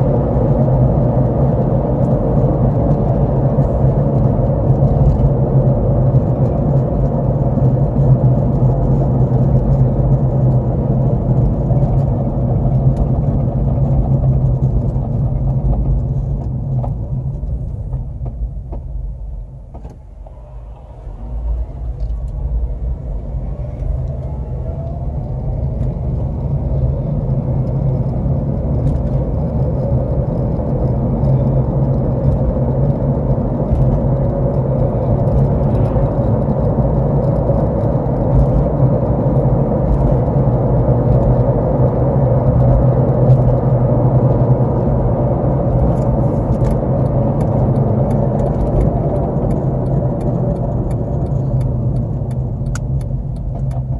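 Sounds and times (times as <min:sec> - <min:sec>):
car engine and road noise: 0:00.0 - 0:53.9.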